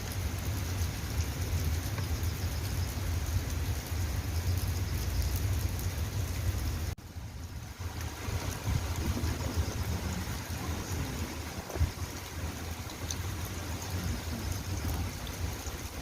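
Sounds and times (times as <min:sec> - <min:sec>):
steady rain falling: 0:00.0 - 0:16.0
low rumble: 0:02.7 - 0:15.7.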